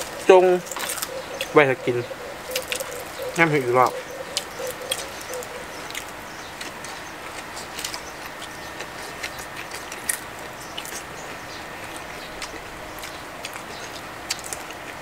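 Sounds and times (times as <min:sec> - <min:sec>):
people chewing crispy food: 0:00.0 - 0:15.0.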